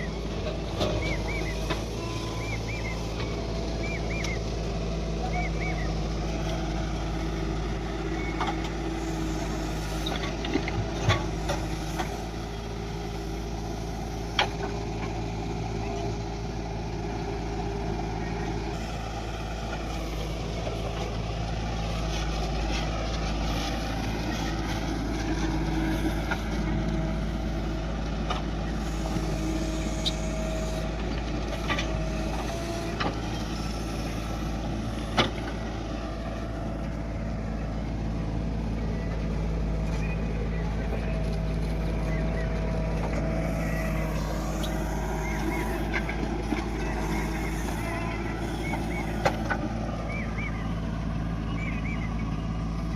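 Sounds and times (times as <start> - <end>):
heavy diesel engines running: 0.0 - 52.9.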